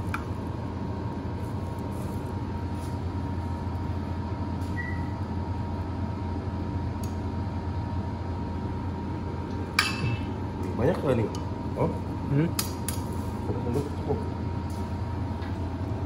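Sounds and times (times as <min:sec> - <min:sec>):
kitchen machinery humming: 0:00.0 - 0:16.0.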